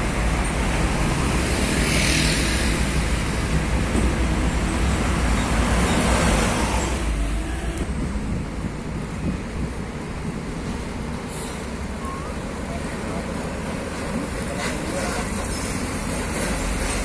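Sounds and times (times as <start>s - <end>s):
road traffic with heavy trucks: 0.0s - 17.0s.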